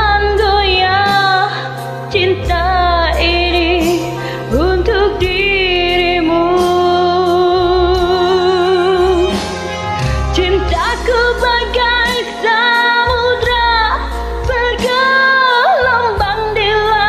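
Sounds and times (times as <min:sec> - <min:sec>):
karaoke backing track: 0:00.0 - 0:17.0
woman singing a slow ballad: 0:00.0 - 0:17.0.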